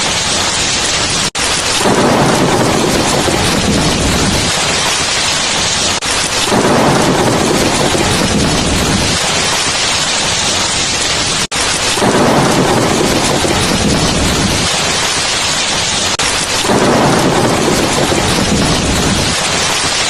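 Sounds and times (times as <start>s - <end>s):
heavy rain falling: 0.0s - 20.0s
thunder rumbling: 0.0s - 20.0s.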